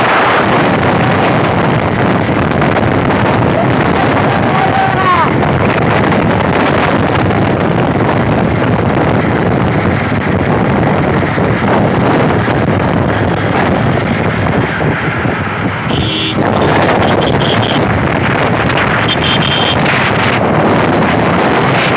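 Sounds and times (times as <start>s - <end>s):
vehicle travel rush: 0.0s - 21.9s
wind buffeting microphone: 0.0s - 21.9s.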